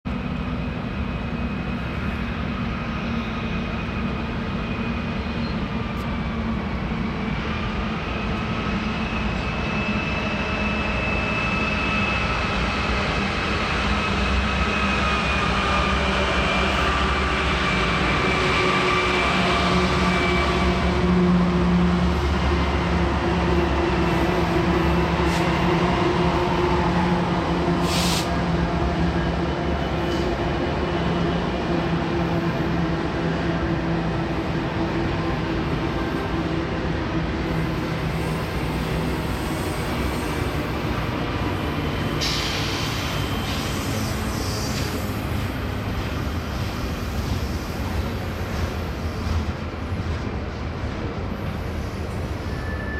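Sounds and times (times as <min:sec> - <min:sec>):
diesel locomotive engine rumble: 0:00.1 - 0:52.9.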